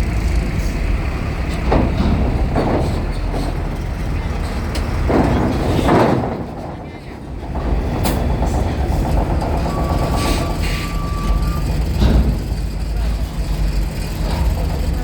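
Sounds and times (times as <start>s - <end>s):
heavy vehicle engines rumbling: 0.0s - 15.0s.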